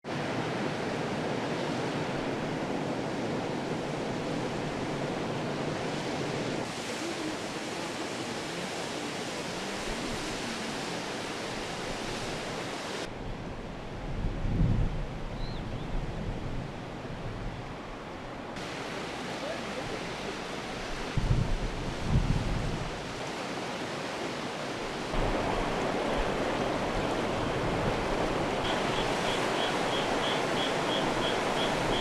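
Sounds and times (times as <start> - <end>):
flooded river rushing: 0.1 - 14.1, 16.2 - 32.0.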